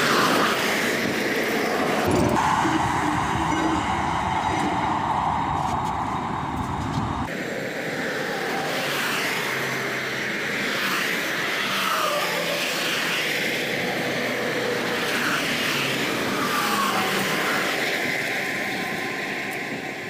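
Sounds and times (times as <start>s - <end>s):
passing highway traffic: 0.0s - 20.0s.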